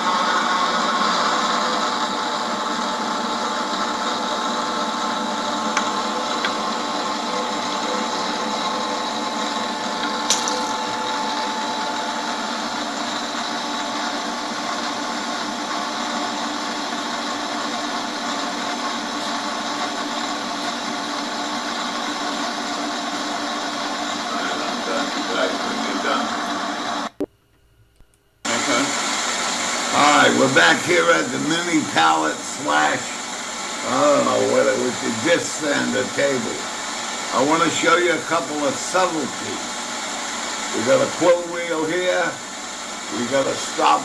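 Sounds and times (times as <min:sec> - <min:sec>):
milling machine cutting metal: 0:04.4 - 0:27.0, 0:28.5 - 0:44.0.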